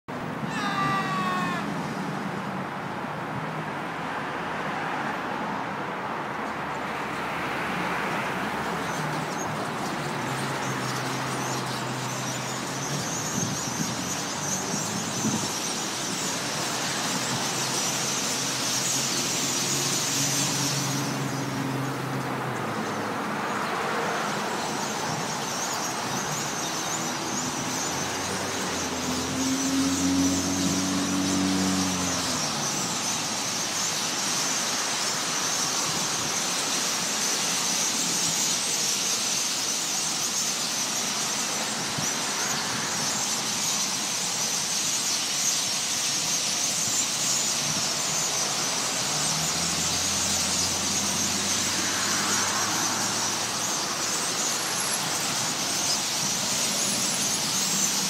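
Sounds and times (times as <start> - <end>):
low traffic hum: 0.1 - 58.0
flock of blackbirds chattering: 0.2 - 2.0, 6.2 - 58.0.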